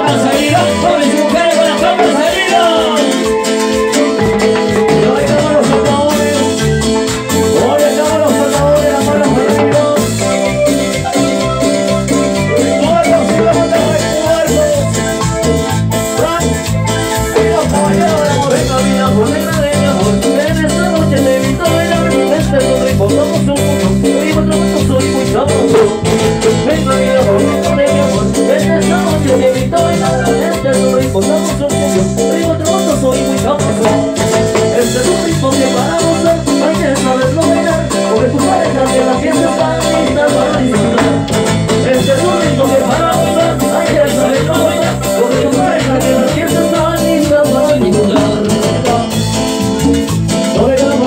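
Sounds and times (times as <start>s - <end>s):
latin dance band playing: 0.0s - 51.0s.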